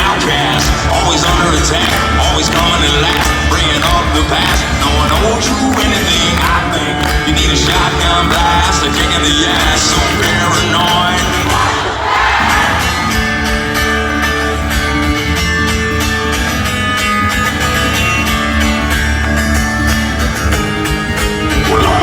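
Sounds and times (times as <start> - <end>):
electric guitars playing chords: 0.0 - 22.0.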